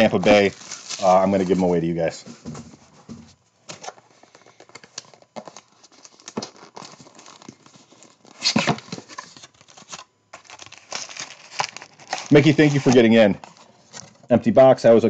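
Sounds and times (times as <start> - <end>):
cardboard and plastic wrappers rustling: 0.0 - 14.3.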